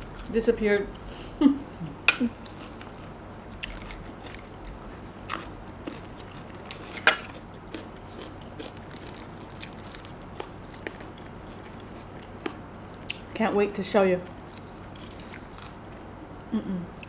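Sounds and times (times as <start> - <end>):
person chewing food: 1.8 - 13.4, 14.4 - 17.0.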